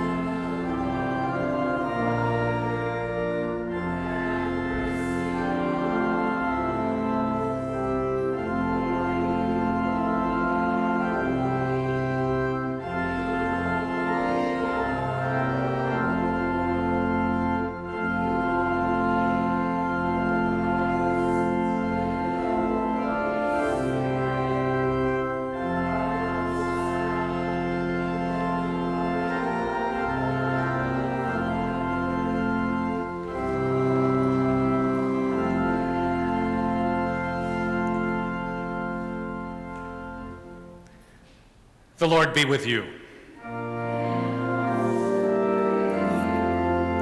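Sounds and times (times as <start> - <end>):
church organ playing chords: 0.0 - 47.0.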